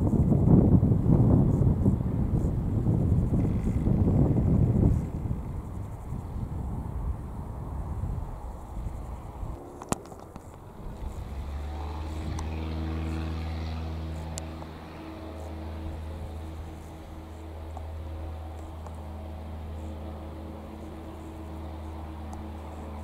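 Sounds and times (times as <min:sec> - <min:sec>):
engine running steadily: 0:00.0 - 0:23.0
wind buffeting microphone: 0:00.0 - 0:23.0.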